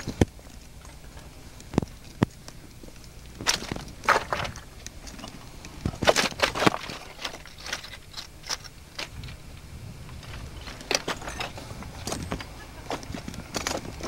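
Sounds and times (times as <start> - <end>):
footsteps on loose boulders: 0.0 - 14.0.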